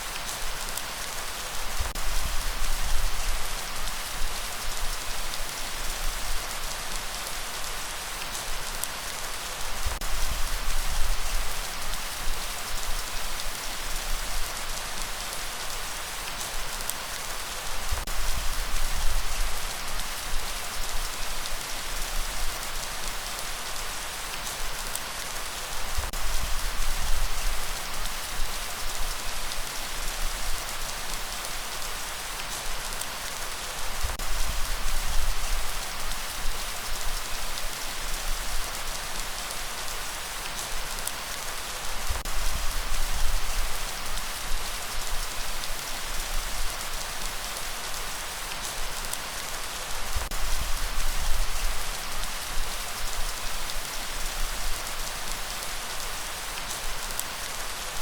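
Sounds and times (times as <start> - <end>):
light rain pattering: 0.0 - 58.0.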